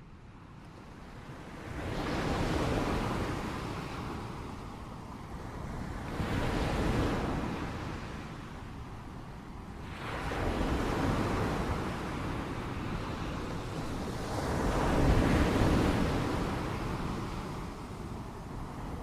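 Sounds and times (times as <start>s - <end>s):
surf on a beach: 0.0s - 19.0s.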